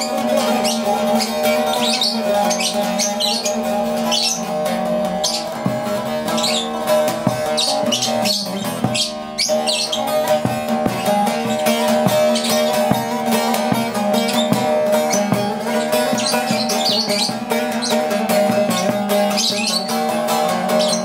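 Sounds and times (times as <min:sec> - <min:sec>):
lute strummed: 0:00.0 - 0:21.0.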